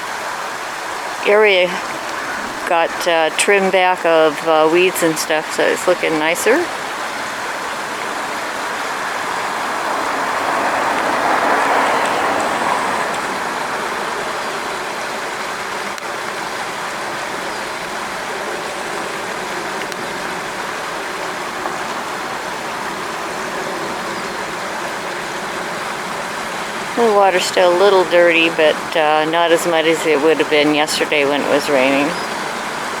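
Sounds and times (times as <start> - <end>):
stream rushing: 0.0 - 33.0.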